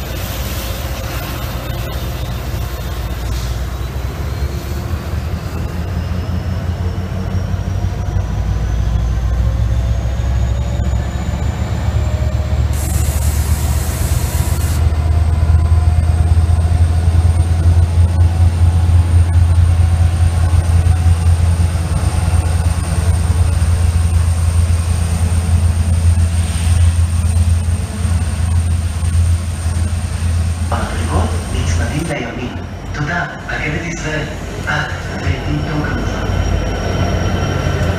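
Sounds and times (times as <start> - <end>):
diesel locomotive rumble: 0.0 - 37.9.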